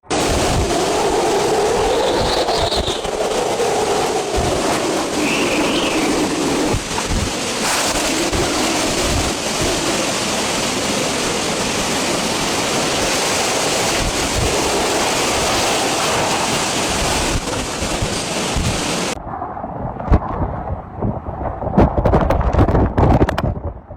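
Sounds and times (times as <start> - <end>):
howling wind tone: 0.0 - 23.9
strong wind blowing: 0.0 - 23.9
wind buffeting microphone: 0.0 - 23.9.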